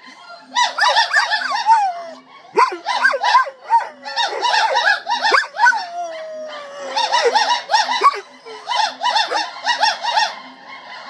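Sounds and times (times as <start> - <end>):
gibbons hooting: 0.4 - 10.4
dog howling: 0.6 - 10.1.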